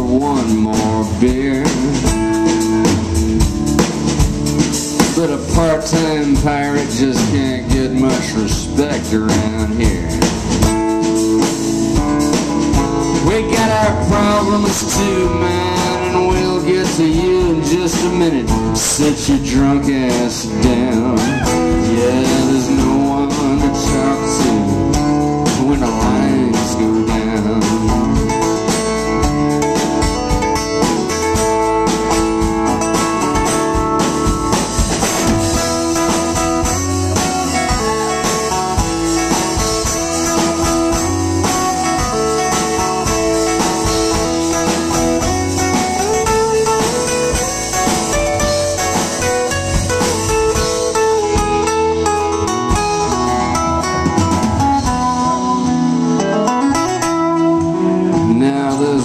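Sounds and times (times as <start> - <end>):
drums: 0.0 - 59.0
lead guitar with bent notes: 0.0 - 59.0.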